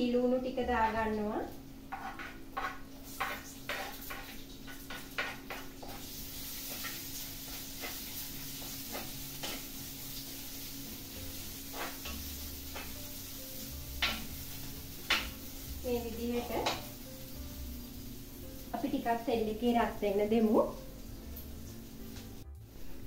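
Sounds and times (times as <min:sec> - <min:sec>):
onions sizzling in oil: 0:00.4 - 0:23.0.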